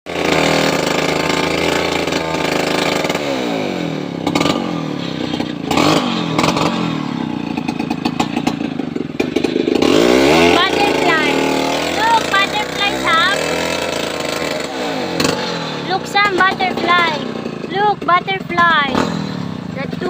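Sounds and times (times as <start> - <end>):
chainsaw engine revving: 0.1 - 20.0.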